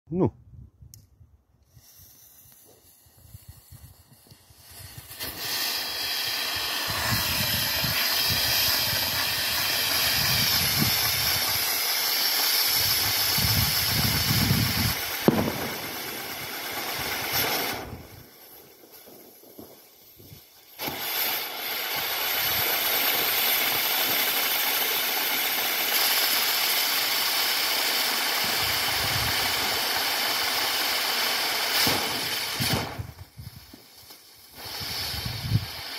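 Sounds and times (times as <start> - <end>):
firework hissing: 1.6 - 35.9.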